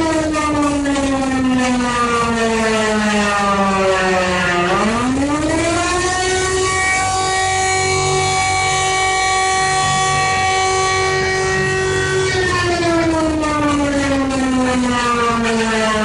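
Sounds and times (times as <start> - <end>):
civil defence siren wailing: 0.0 - 16.0.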